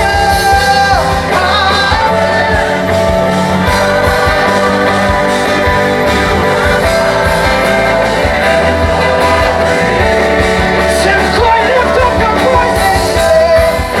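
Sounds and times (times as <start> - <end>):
drum beat: 0.0 - 14.0
live gospel band playing: 0.0 - 14.0
voices singing: 0.0 - 14.0.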